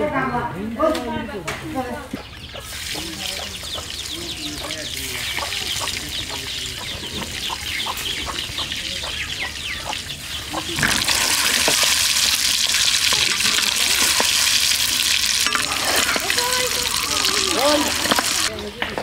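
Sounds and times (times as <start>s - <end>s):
eggs sizzling in hot oil: 2.6s - 18.5s.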